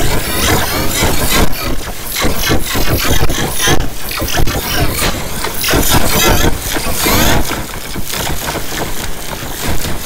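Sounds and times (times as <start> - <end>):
harsh distorted pitch-stacked audio: 0.0 - 10.0.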